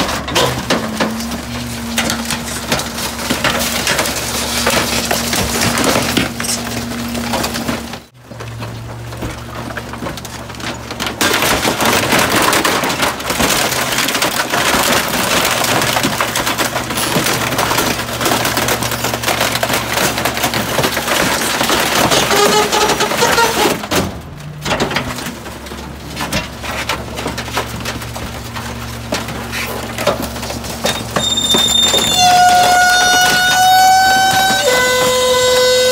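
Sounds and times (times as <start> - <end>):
creaking: 0.0 - 35.9
garbage truck crushing bulky waste: 0.0 - 35.9
garbage truck machinery hum: 0.0 - 35.9
wood and plastic cracking: 0.0 - 35.9.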